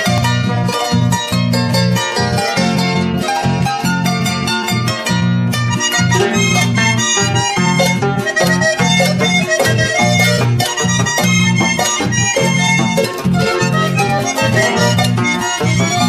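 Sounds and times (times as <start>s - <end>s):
guitars: 0.0s - 16.0s
harp: 0.0s - 16.0s.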